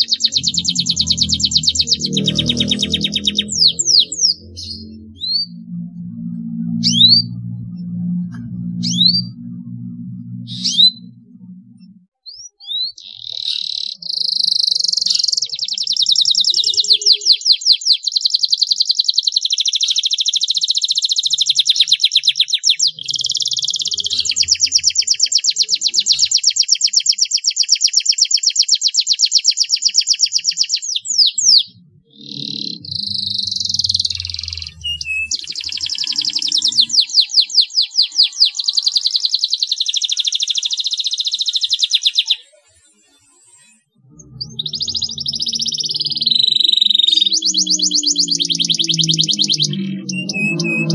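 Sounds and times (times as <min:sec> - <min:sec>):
canary singing fast trills: 0:00.0 - 0:50.9.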